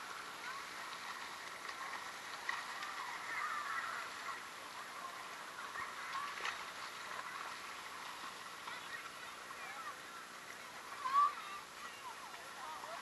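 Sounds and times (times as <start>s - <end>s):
creek water flowing and gurgling: 0.0s - 13.0s.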